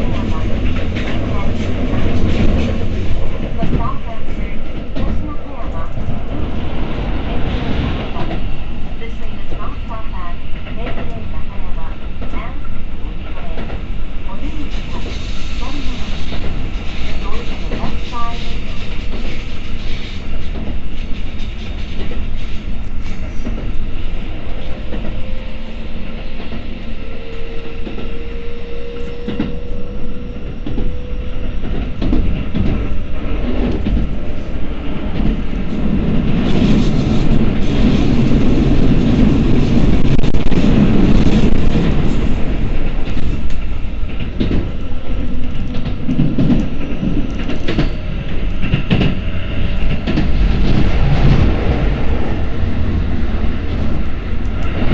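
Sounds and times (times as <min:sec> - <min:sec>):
train rumble: 0:00.0 - 0:54.9.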